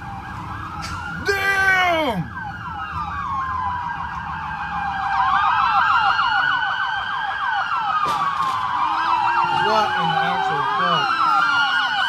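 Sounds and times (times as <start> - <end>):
police sirens yelping and wailing: 0.0 - 12.0.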